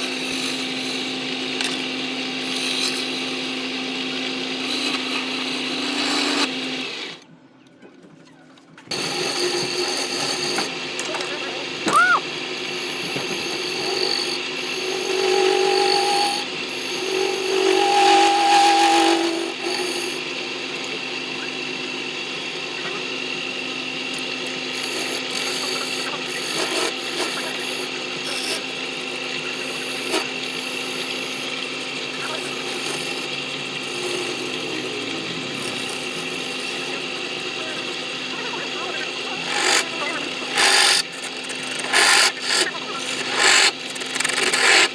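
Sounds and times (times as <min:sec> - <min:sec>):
turning tool cutting wood: 0:00.0 - 0:07.2, 0:08.9 - 0:44.9
wood lathe running: 0:00.0 - 0:07.2, 0:08.9 - 0:44.9.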